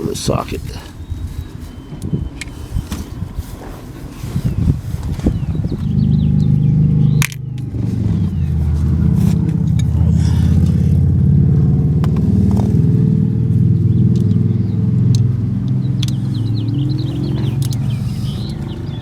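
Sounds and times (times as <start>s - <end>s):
loud low engine-like drone: 0.0s - 19.0s.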